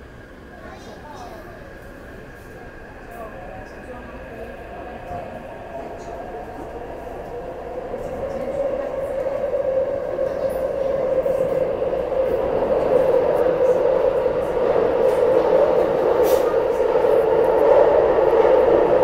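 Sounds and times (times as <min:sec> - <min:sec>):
train running noise with hum: 0:00.0 - 0:19.0.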